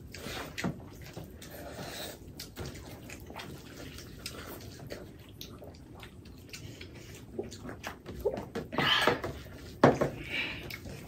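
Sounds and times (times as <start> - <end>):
chewing and lip smacks: 0.0 - 8.5, 10.6 - 11.0.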